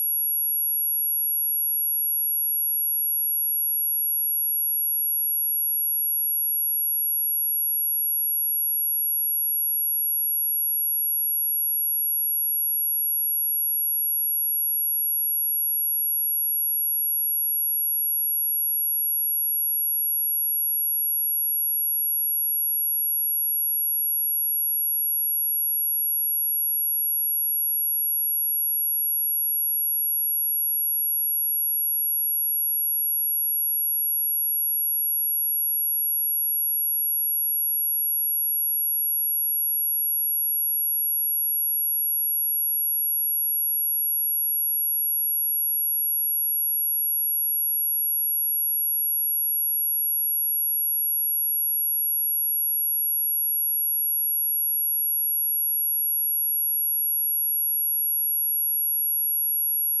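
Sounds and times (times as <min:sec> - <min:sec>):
high-pitched sine-wave test tone: 0:00.0 - 1:00.0.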